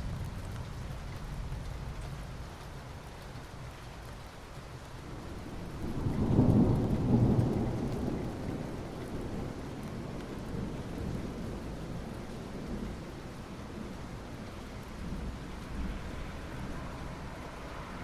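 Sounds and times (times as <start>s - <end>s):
low rumble of thunder: 0.0s - 18.0s
rain on asphalt: 0.0s - 18.0s.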